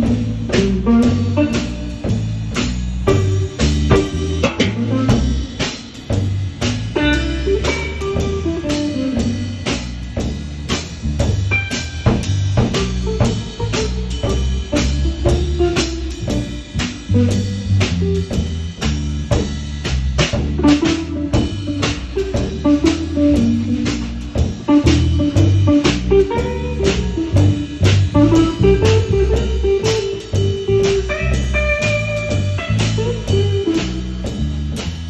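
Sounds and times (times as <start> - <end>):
bass line: 0.0 - 35.0
drum kit beat: 0.0 - 35.0
guitar: 0.0 - 35.0.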